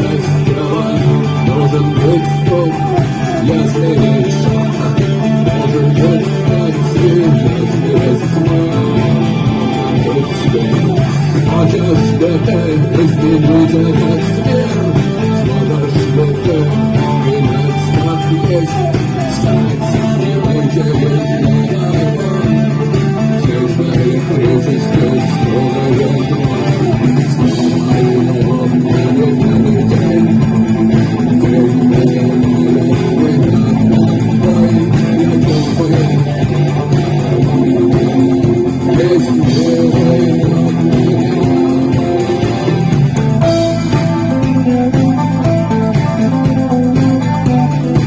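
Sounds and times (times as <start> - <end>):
bass line: 0.0 - 48.0
electric guitar: 0.0 - 48.0
rock band playing: 0.0 - 48.0.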